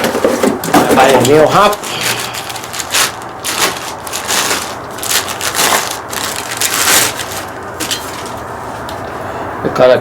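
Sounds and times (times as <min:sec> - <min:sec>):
packaging crinkling and crunching: 0:00.0 - 0:09.0.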